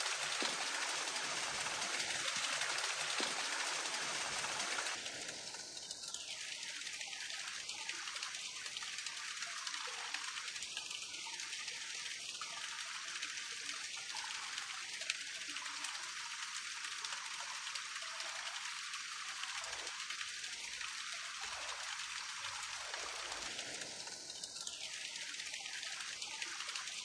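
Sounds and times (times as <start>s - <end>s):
running water: 0.0s - 27.0s.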